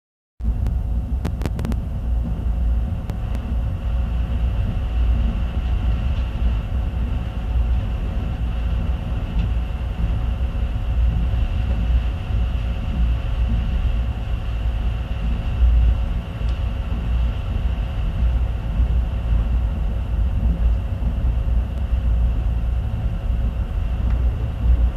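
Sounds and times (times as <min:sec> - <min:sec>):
train wheels rumbling on rails: 0:00.4 - 0:24.9.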